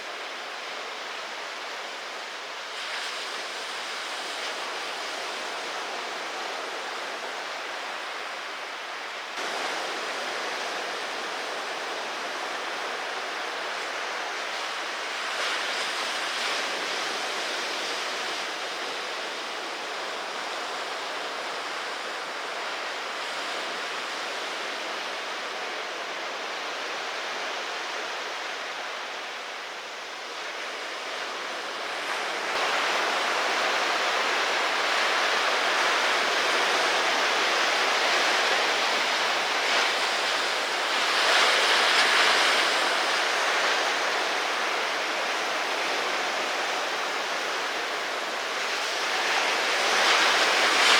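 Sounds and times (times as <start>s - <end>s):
ocean surf rushing: 1.4s - 50.9s.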